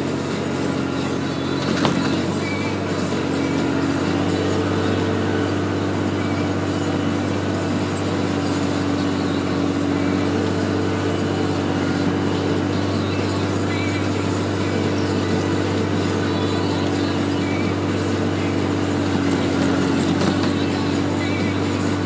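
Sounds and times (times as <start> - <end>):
diesel engine droning under load: 0.0 - 22.0.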